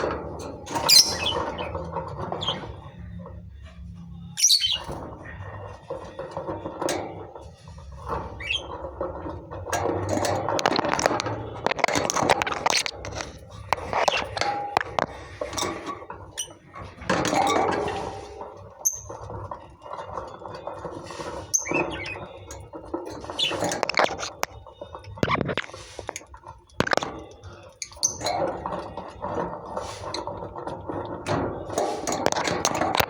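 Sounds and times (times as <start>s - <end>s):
small clicks and scratching: 0.0s - 33.0s
lovebirds chirping and squeaking: 0.5s - 26.2s, 26.8s - 30.3s.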